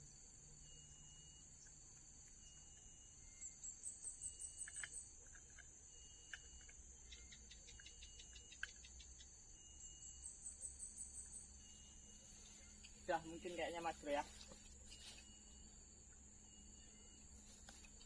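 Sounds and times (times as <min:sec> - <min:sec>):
insects droning: 0:00.0 - 0:18.0
rapid high insect chirps: 0:00.0 - 0:18.0.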